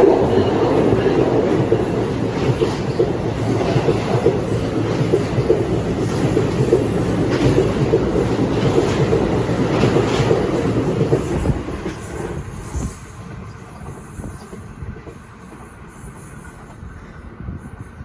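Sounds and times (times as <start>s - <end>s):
train wheels clattering on rails: 0.0s - 18.0s.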